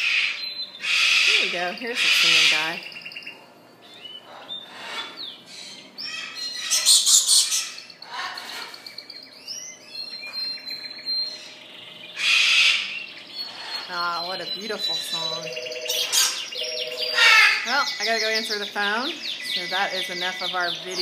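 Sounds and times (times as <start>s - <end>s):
canary singing: 0.0s - 21.0s.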